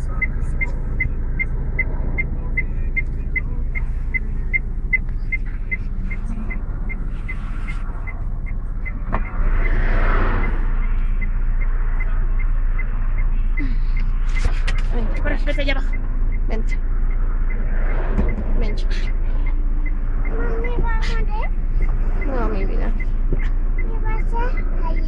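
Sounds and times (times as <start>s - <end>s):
car engine rumble: 0.0s - 25.0s
passing motorway traffic: 0.0s - 25.0s.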